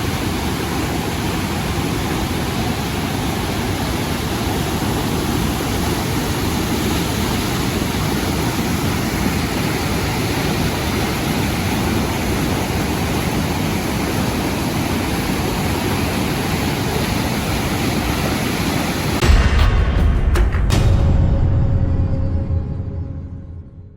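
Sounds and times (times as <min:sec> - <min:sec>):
waterfall roaring: 0:00.0 - 0:19.4.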